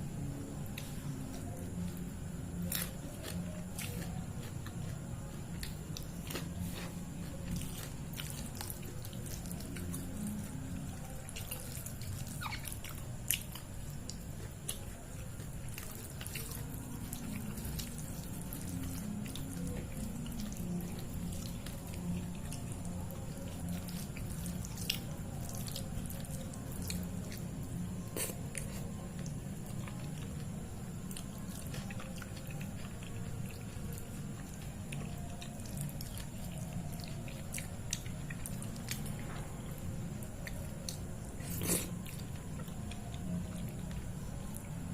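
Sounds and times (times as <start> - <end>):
steady low hum: 0.0 - 44.9
moist chewing: 2.6 - 44.9.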